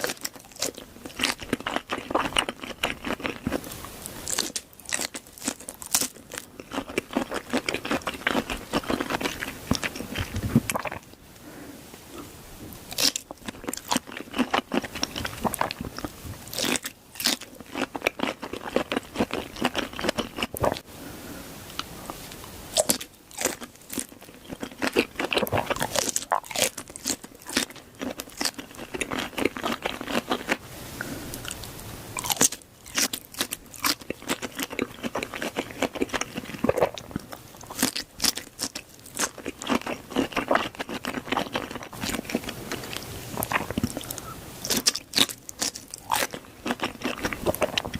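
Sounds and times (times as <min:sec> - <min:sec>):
crunchy bites and chewing: 0:00.0 - 0:11.1, 0:12.8 - 0:20.8, 0:21.7 - 0:30.6, 0:31.3 - 0:47.9.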